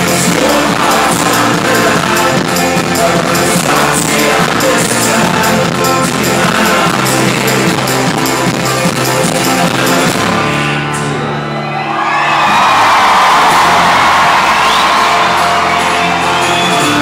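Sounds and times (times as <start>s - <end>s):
live folk-rock band: 0.0s - 17.0s
strummed guitar: 0.0s - 17.0s.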